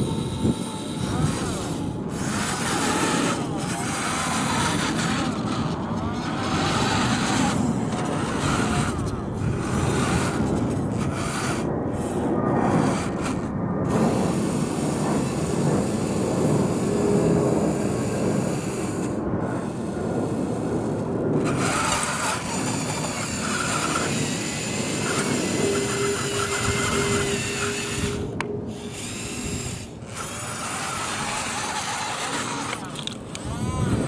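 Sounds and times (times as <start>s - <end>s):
small electric motors whirring: 0.0s - 34.0s
thin whine: 0.0s - 34.0s
toy driving over gravel: 0.0s - 34.0s.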